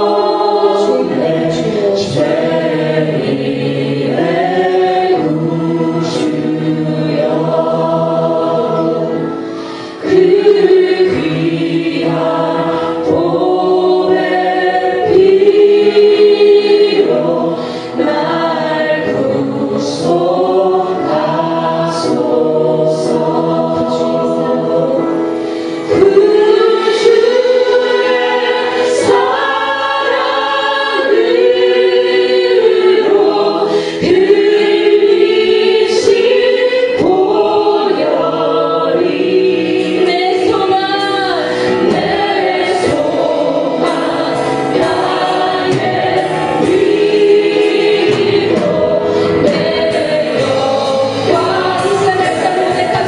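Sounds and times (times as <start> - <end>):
group singing a slow hymn: 0.0 - 53.0.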